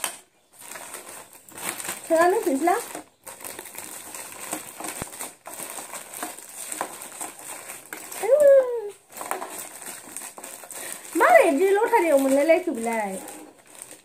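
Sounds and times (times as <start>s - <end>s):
plastic bag rustling and crinkling: 0.0s - 14.0s.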